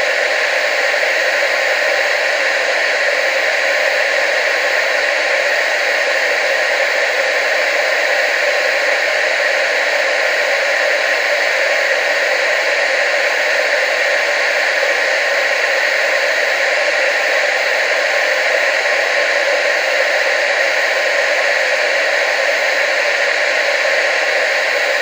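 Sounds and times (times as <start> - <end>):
television static hiss: 0.0 - 25.0.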